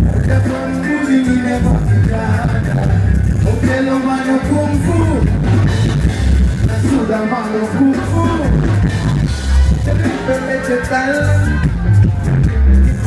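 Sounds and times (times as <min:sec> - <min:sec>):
live band music: 0:00.0 - 0:13.0
person singing: 0:00.0 - 0:13.0
pulsing bass beat: 0:00.0 - 0:13.0.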